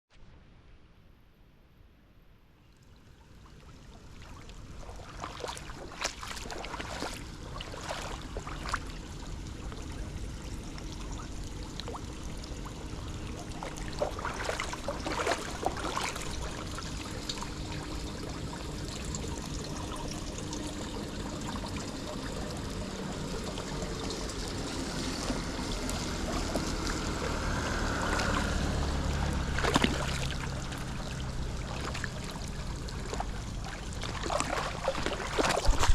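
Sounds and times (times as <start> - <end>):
water trickling into drain: 2.7 - 35.9.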